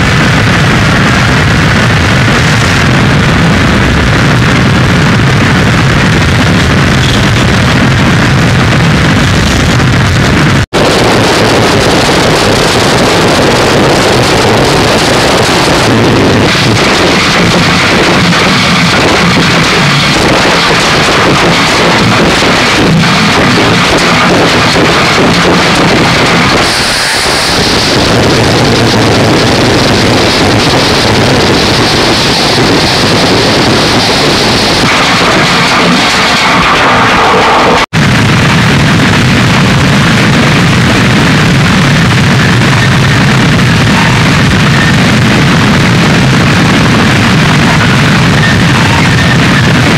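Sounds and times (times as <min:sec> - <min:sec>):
harsh distorted static noise music: 0:00.0 - 0:49.9.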